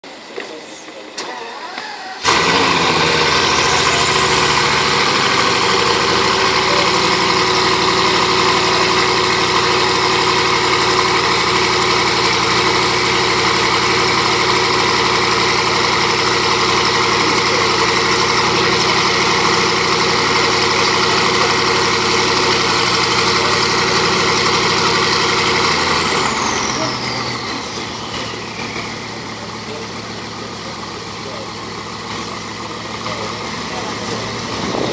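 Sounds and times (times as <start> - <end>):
car engine idling loudly: 1.7 - 34.9.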